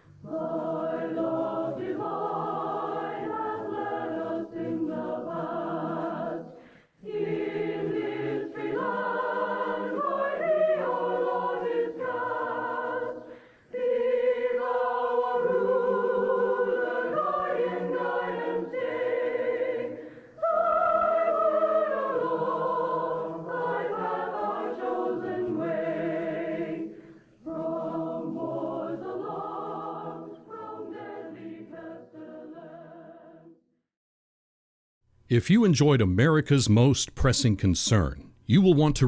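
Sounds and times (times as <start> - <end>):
choir singing: 0.0 - 33.7.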